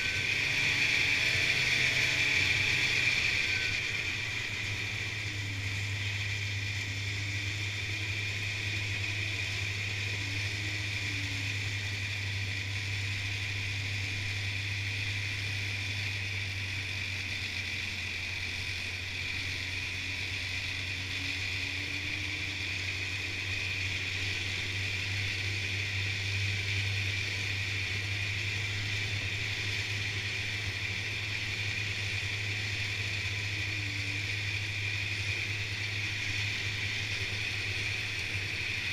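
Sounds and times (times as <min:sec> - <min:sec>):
snowmobile engine drone: 0:00.0 - 0:38.9.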